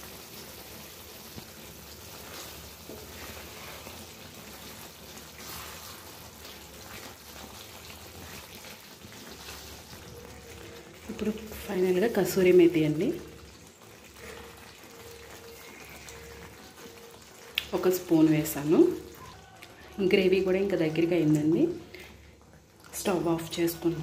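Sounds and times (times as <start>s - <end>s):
gravy simmering and sizzling: 0.0s - 24.0s.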